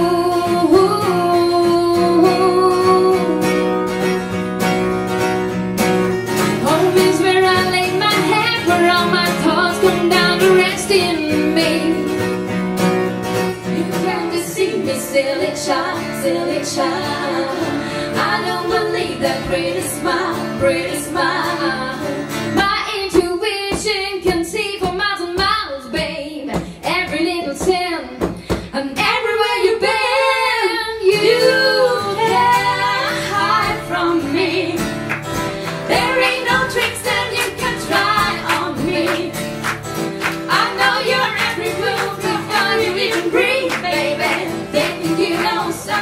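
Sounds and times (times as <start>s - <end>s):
women singing: 0.0s - 3.7s, 6.5s - 12.3s, 13.6s - 46.0s
acoustic guitar strumming: 0.0s - 25.5s, 31.1s - 46.0s.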